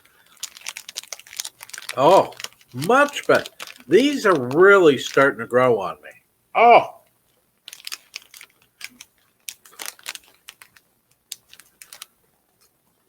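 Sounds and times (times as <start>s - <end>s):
crackers being chewed: 0.0s - 5.6s, 7.6s - 12.8s.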